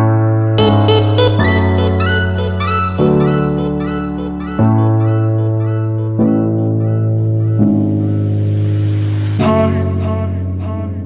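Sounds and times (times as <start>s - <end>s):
background music with chords: 0.6s - 10.6s.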